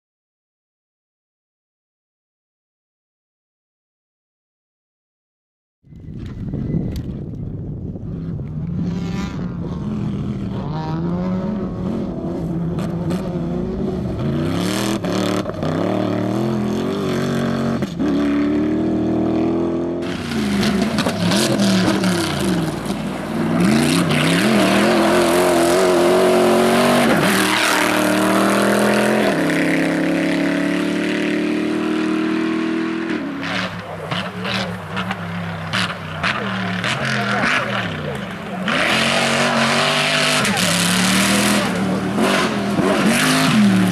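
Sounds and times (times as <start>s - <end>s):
rally car engine revving: 8.0s - 43.9s.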